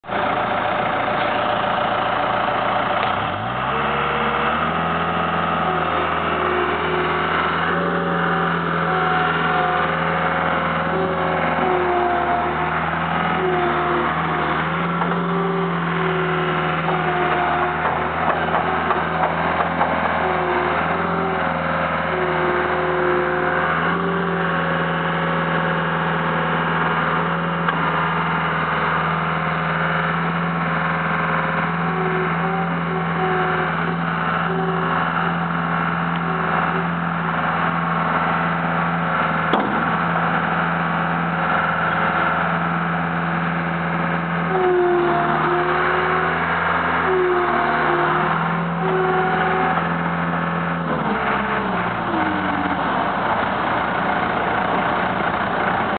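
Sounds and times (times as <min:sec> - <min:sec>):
diesel engine running: 0:00.0 - 0:55.9
whine shifting in pitch: 0:03.8 - 0:54.8.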